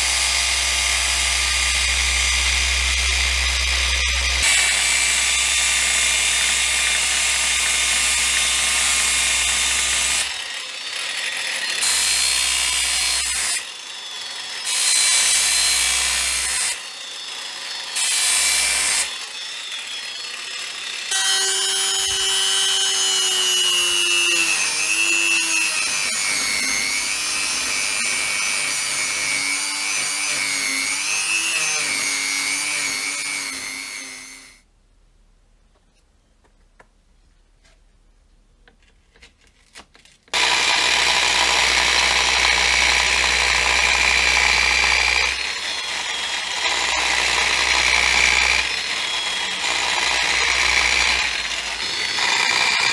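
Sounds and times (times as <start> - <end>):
angle grinder grinding steel: 0.0 - 34.6, 40.3 - 52.9.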